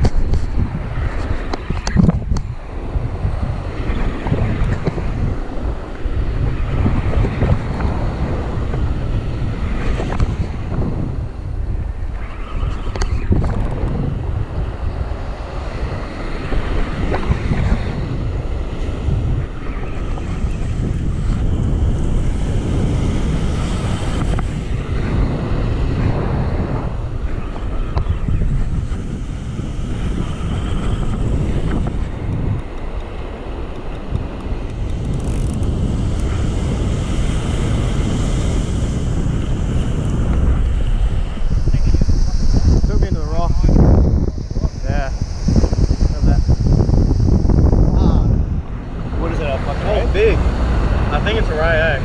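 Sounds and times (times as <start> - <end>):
waves breaking on beach: 0.0 - 52.0
wind buffeting microphone: 0.0 - 52.0.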